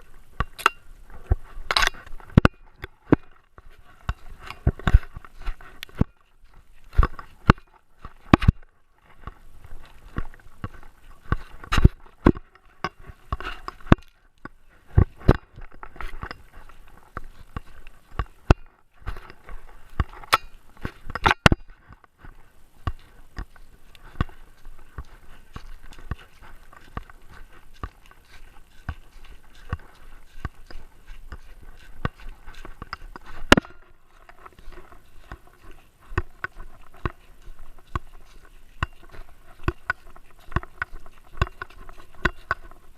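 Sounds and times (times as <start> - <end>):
camera knocking and scraping: 0.0 - 42.9.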